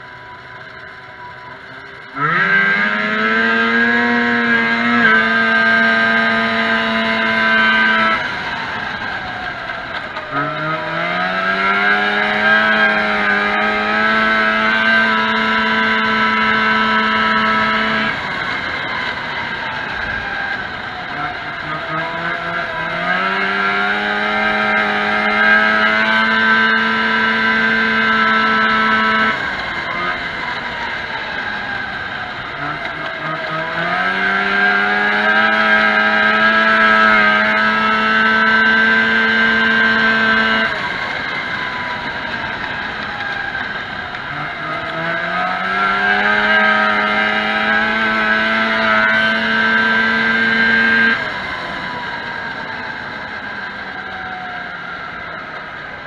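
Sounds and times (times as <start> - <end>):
snowmobile engine revving: 0.7 - 56.0.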